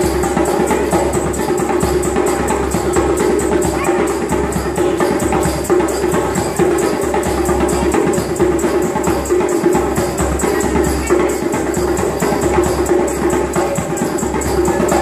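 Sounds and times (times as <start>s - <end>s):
fast percussion beat: 0.0s - 15.0s.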